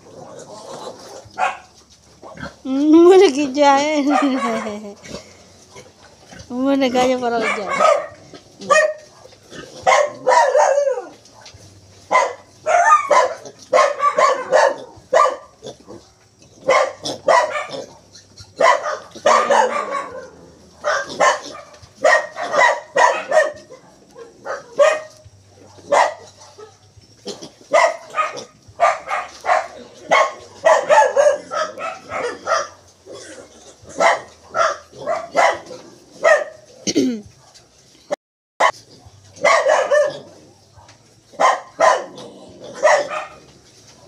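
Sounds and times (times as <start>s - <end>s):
piglets grunting and squealing: 0.0s - 1.4s, 2.1s - 10.3s, 12.7s - 26.4s, 27.1s - 37.4s, 38.8s - 40.7s, 42.0s - 43.7s.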